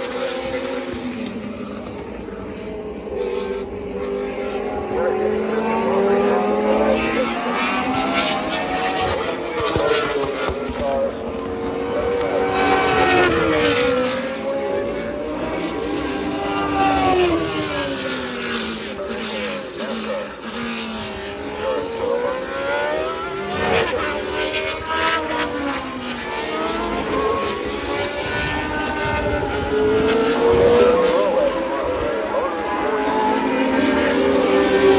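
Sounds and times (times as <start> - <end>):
race cars passing at speed: 0.0 - 34.9.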